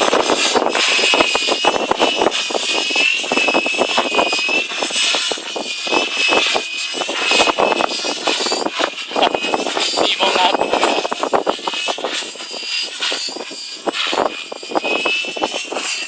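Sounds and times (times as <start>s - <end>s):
rc helicopter motor whine: 0.0s - 16.0s
wind buffeting microphone: 0.0s - 16.0s.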